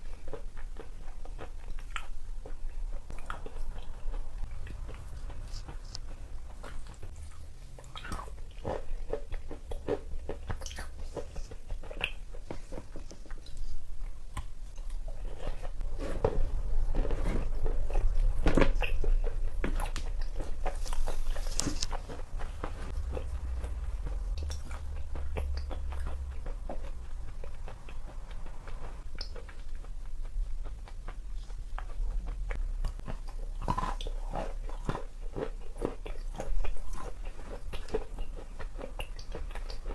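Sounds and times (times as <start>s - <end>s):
chewing crunchy chalk: 0.0s - 39.9s.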